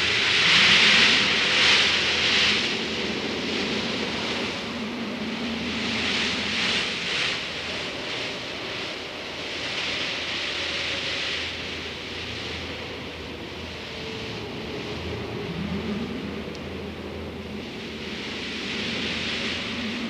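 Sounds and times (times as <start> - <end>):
wind gusting with blown sand: 0.0 - 20.0.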